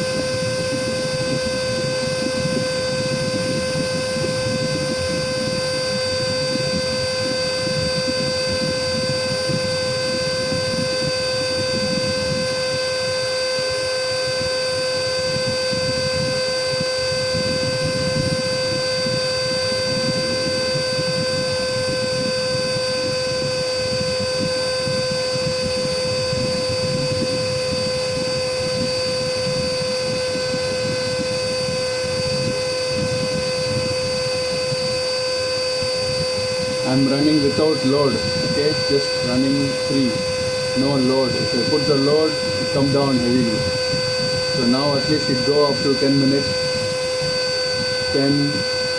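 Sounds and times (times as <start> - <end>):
vacuum cleaner motor whine: 0.0 - 48.9.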